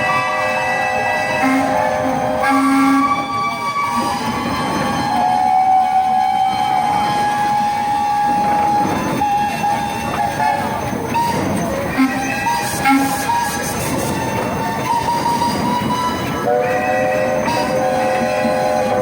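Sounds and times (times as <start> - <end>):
steam whistles blowing: 0.0 - 19.0.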